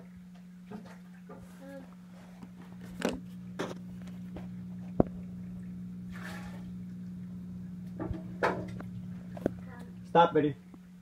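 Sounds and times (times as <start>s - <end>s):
aquarium hum: 0.0s - 11.0s
faint watery sounds: 0.0s - 11.0s.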